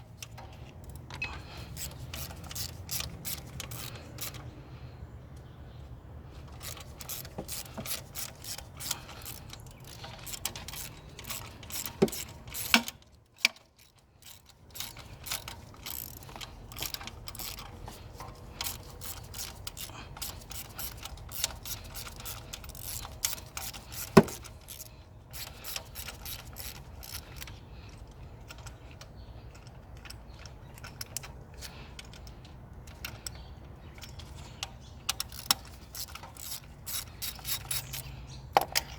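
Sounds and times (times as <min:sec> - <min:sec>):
hand tools clicking and clinking: 0:00.1 - 0:04.5, 0:06.4 - 0:38.9.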